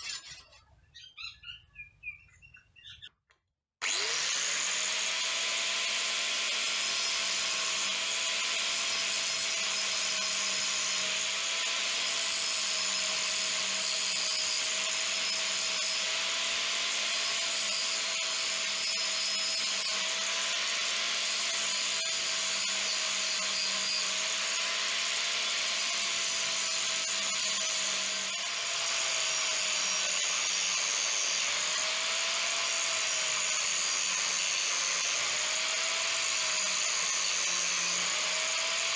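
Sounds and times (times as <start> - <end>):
angle grinder grinding steel: 0.0 - 1.1, 3.8 - 38.9.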